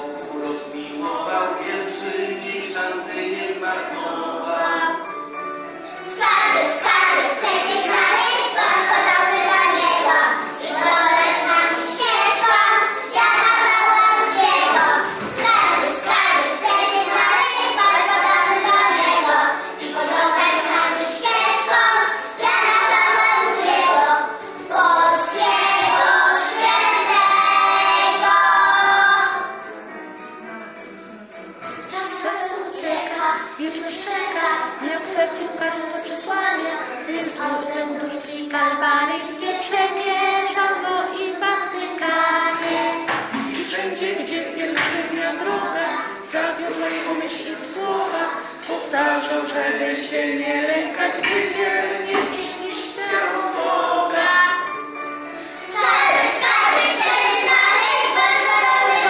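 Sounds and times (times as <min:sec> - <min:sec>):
children singing in unison: 0:00.0 - 0:05.2, 0:05.8 - 0:29.8, 0:31.6 - 0:59.0
jingling percussion: 0:00.0 - 0:59.0.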